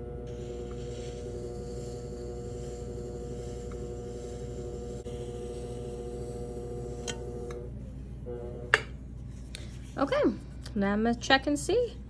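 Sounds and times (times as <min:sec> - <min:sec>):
potter's wheel motor hum: 0:00.0 - 0:11.0.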